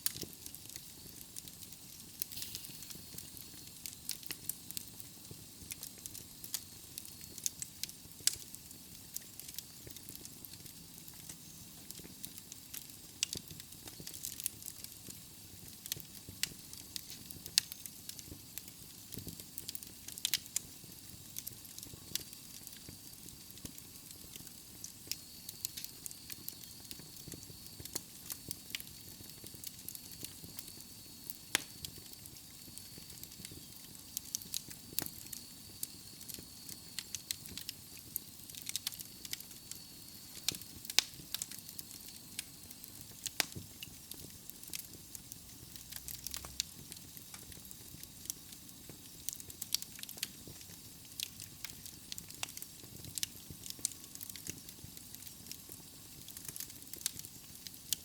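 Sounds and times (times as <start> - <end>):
fire crackles and pops: 0.0 - 58.0
logs burning with steady hiss: 0.0 - 58.0.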